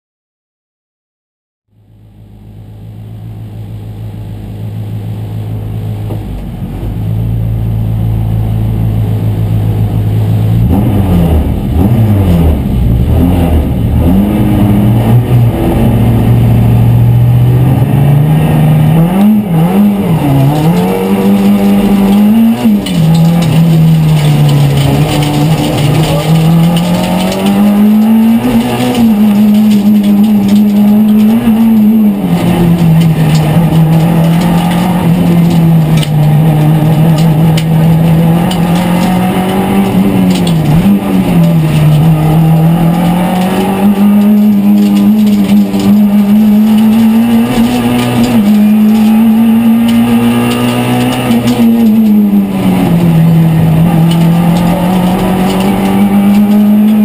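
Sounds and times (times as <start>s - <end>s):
rally car engine revving: 2.8s - 57.0s.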